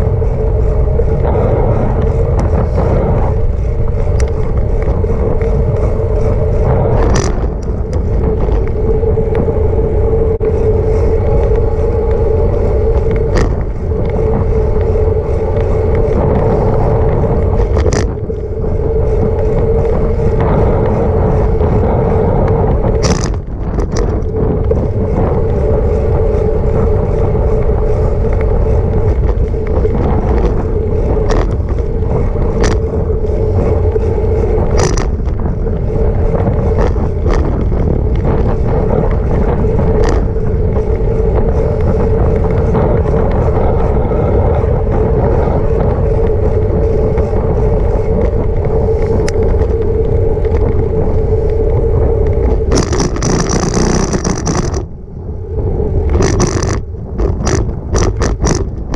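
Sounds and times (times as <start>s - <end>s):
bicycle tyre noise: 0.0s - 58.9s
steady hum: 0.0s - 58.9s
wind rumble on microphone: 0.0s - 58.9s.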